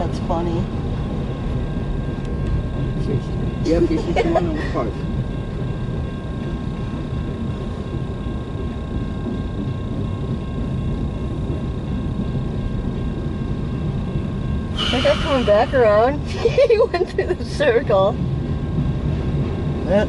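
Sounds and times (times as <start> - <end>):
vehicle rumble inside car: 0.0 - 20.0.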